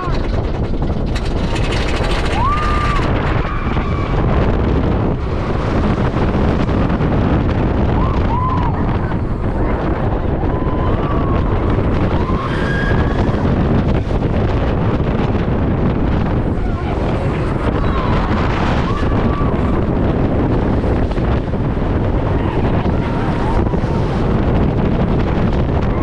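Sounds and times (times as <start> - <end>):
roller coaster train running: 0.0 - 26.0
wind rushing on microphone: 0.0 - 26.0.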